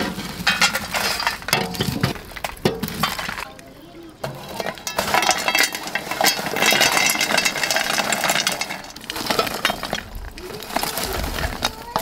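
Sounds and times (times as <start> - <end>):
charcoal clattering onto metal lid: 0.0 - 3.5, 4.2 - 12.0.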